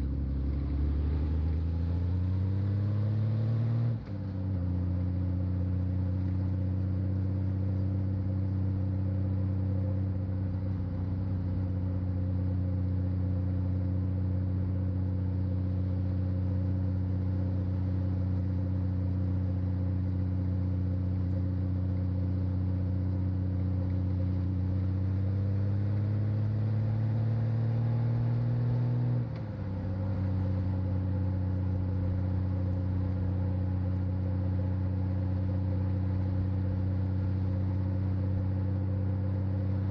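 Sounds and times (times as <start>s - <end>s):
motorcycle engine running: 0.0s - 3.2s, 4.2s - 39.9s.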